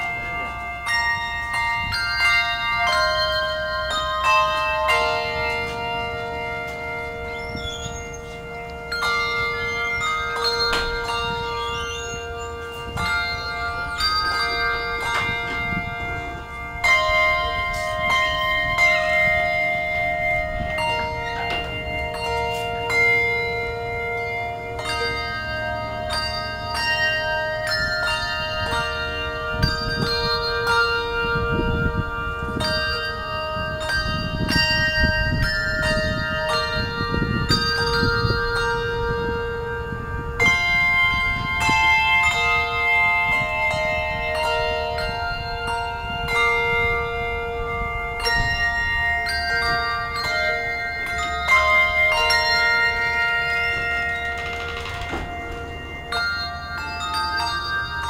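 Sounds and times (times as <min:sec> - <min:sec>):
handbells playing a tune: 0:00.0 - 0:58.0.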